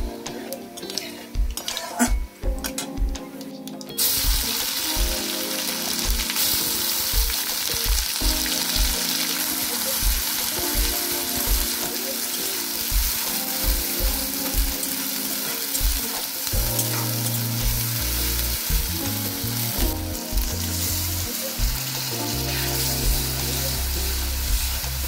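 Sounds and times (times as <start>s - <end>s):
paste sizzling in hot oil: 4.0s - 25.0s.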